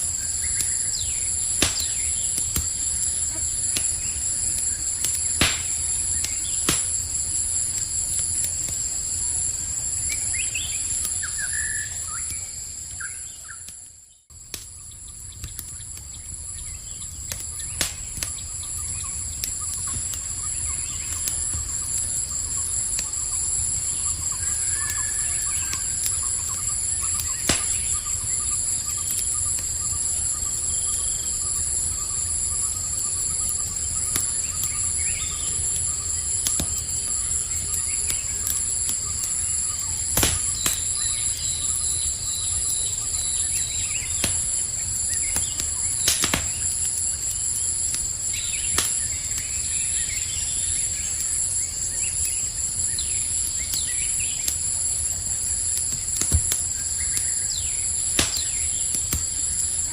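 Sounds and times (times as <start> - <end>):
campfire crackling: 0.0 - 59.9
crickets chirping: 0.0 - 59.9.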